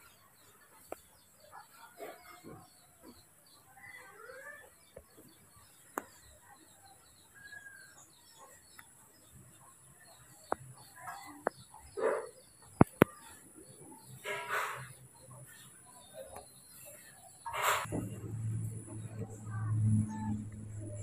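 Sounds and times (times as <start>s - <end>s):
faint high chirping: 0.0s - 21.0s
birds calling: 0.8s - 21.0s.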